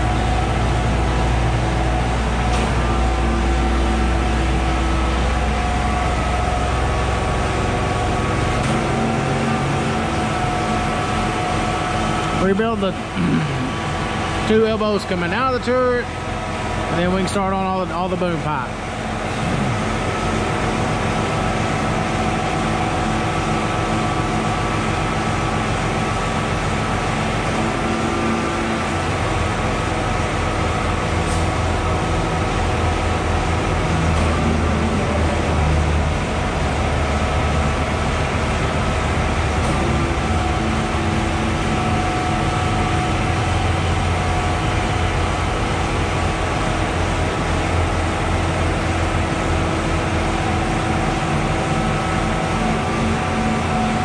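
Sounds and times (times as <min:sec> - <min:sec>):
hydraulic humming tones: 0:00.0 - 0:54.0
truck engine low rumble: 0:00.0 - 0:54.0.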